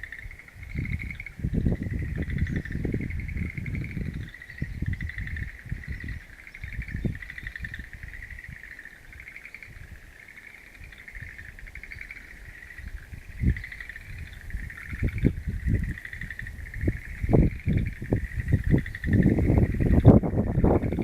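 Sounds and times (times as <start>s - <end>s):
chorus of frogs trilling: 0.0s - 21.0s.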